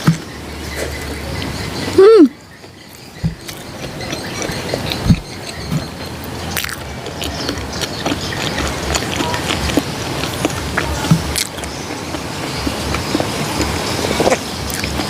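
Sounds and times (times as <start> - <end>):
wet chewing clicks and smacks: 2.5 - 15.0.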